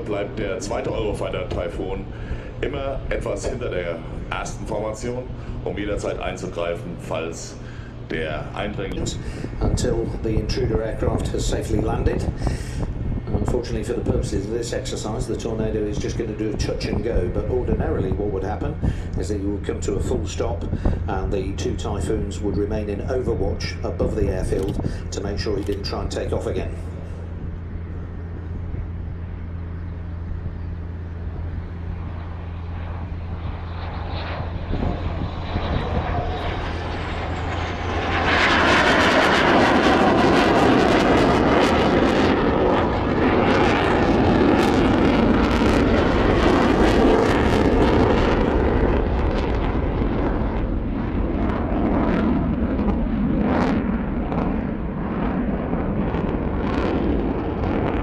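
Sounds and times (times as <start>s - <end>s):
jet engines roaring overhead: 0.0s - 58.0s
steady low hum: 0.0s - 58.0s.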